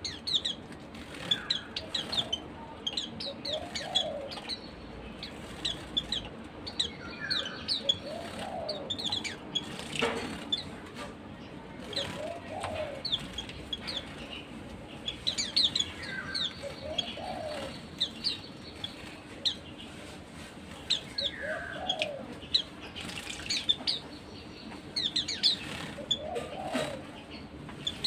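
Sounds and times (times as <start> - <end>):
birds chirping high: 0.0 - 28.0.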